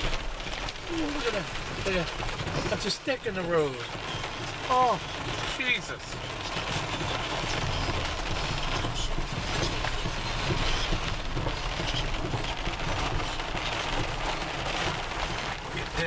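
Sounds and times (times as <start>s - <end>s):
car driving on wet road: 0.0s - 16.0s
heavy rain on car roof: 0.0s - 16.0s.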